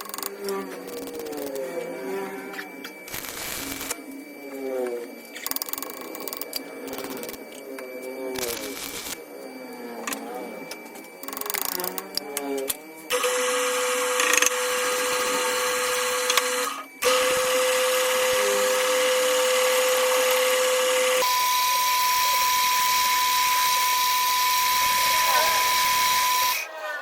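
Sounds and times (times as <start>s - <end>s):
electric power tool whining: 0.0s - 26.7s.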